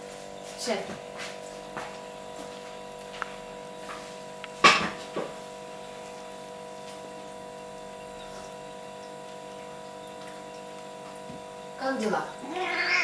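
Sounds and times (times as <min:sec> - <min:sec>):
steady hum of thin tones: 0:01.5 - 0:13.0.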